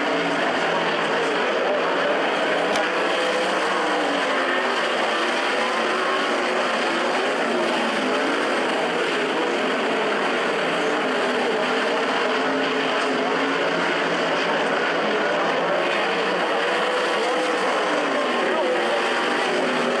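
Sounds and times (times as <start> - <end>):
many race car engines running: 0.0 - 20.0.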